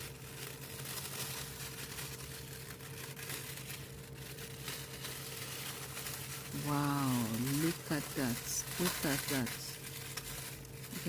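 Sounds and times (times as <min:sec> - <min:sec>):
plastic bag rustling and tearing: 0:00.0 - 0:11.0
steady low hum: 0:00.0 - 0:11.0.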